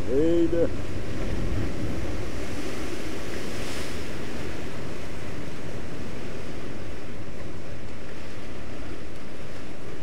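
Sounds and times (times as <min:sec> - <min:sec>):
sea surf breaking on rocks: 0:00.0 - 0:10.0
wind rumbling on microphone: 0:00.0 - 0:10.0.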